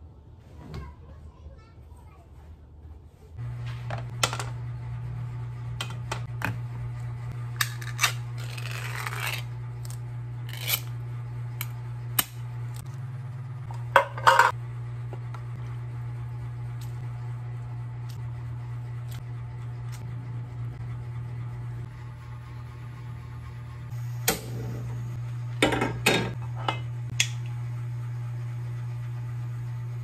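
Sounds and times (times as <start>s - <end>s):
low hum: 3.4s - 30.0s.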